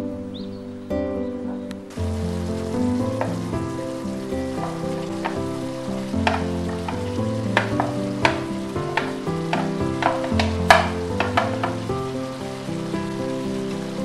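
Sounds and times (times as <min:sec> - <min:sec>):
instrumental background music: 0:00.0 - 0:14.0
stir-fry sizzling in a wok: 0:01.9 - 0:14.0.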